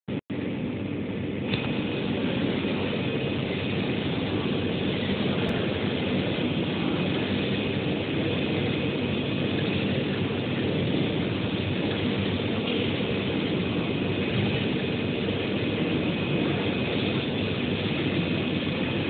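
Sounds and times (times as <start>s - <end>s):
faint high whine: 0.1s - 19.0s
printer mechanical whir: 0.3s - 19.0s.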